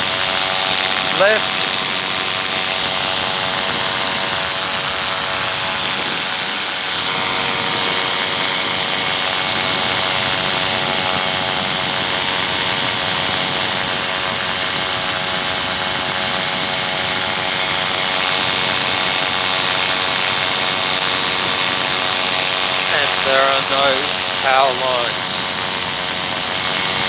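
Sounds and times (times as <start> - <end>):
paramotor engine droning: 0.0 - 27.0.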